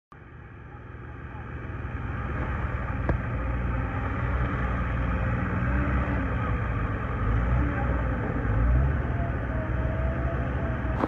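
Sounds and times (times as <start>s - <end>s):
diesel engine running: 0.1s - 11.0s.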